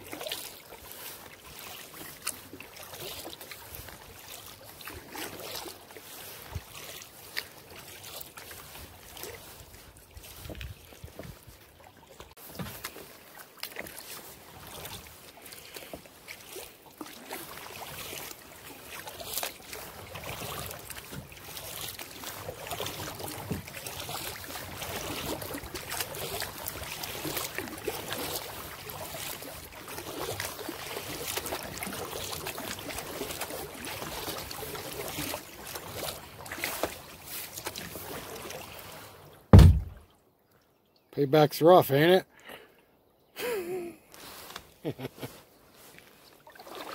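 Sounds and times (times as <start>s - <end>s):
paddle blades splashing: 0.0s - 40.2s, 43.4s - 46.9s
water lapping around hull: 0.0s - 41.1s, 42.0s - 46.9s.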